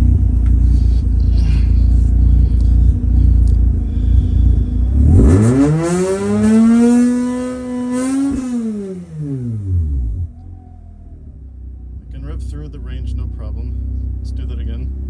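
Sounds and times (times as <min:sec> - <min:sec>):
rotary engine idling and revving: 0:00.0 - 0:15.0.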